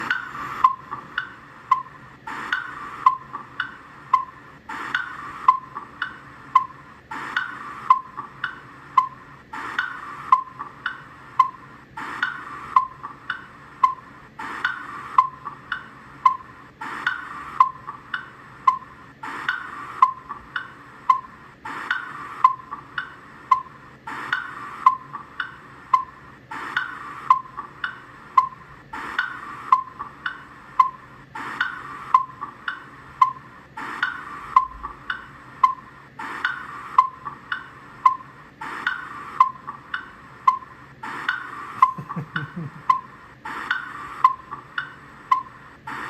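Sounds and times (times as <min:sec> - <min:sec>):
clock ticking: 0:00.0 - 0:46.0.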